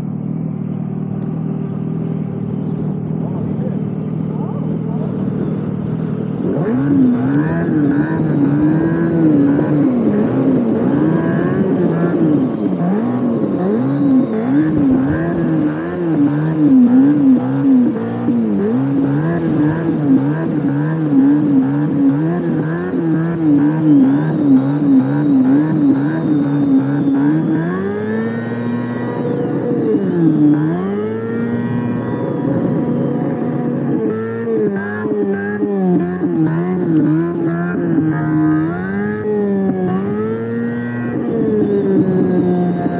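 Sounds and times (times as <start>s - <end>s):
simulated engine revving from speaker: 0.0s - 42.9s.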